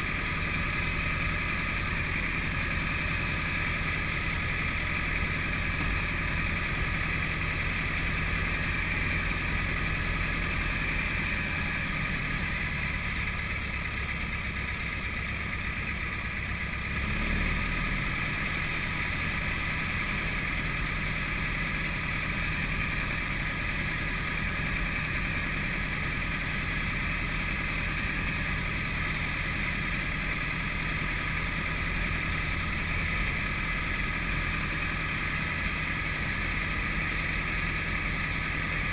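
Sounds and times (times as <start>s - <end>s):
light aircraft engine rumble: 0.0s - 38.9s.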